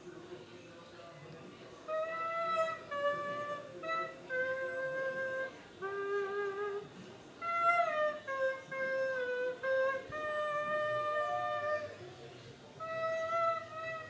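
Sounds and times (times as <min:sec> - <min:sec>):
slow hymn melody: 0:01.3 - 0:14.0.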